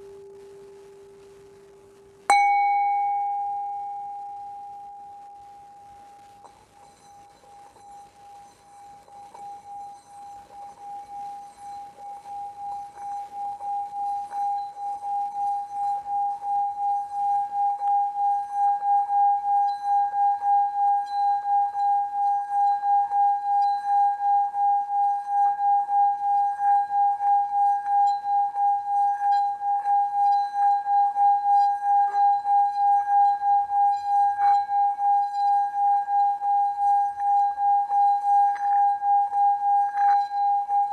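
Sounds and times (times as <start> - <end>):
singing bowl ringing tone: 0.0 - 40.9.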